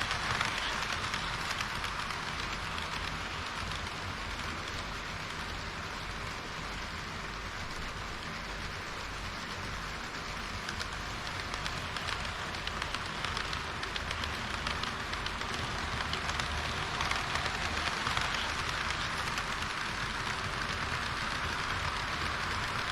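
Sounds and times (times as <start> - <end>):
model train wheels on rail: 0.0 - 22.9.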